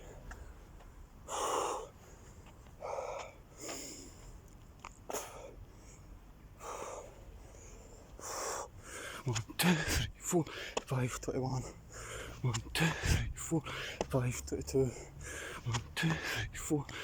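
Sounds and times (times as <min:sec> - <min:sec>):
man breathing hard: 0:01.2 - 0:04.4, 0:05.1 - 0:10.9, 0:11.5 - 0:14.1, 0:14.8 - 0:17.0.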